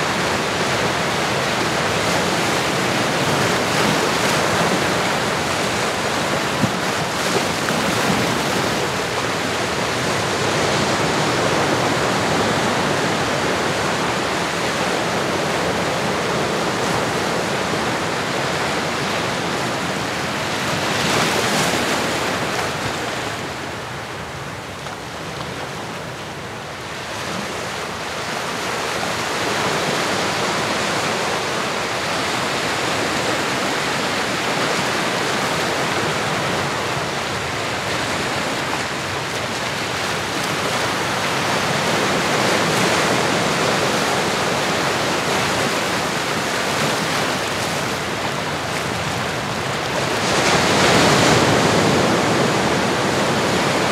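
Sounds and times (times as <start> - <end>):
ocean waves washing: 0.0 - 53.9.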